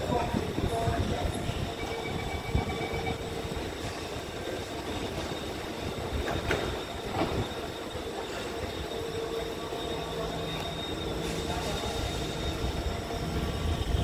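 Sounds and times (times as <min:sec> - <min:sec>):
metro train humming: 0:00.0 - 0:14.0
train doors closing: 0:00.0 - 0:14.0.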